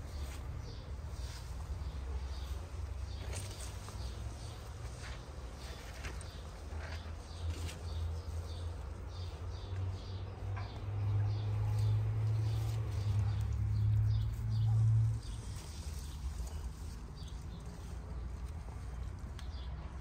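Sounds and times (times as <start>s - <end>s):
faint birds chirping: 0.0s - 20.0s.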